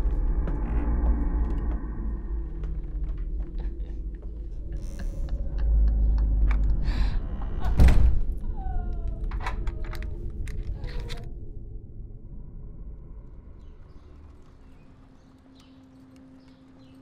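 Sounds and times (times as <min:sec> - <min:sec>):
low rumbling drone: 0:00.0 - 0:16.8.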